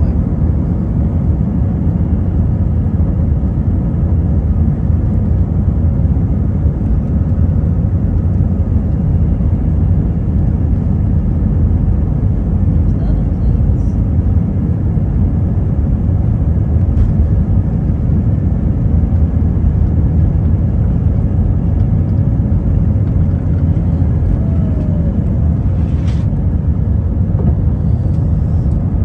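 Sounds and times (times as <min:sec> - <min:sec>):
airliner cabin engine rumble: 0:00.0 - 0:29.0.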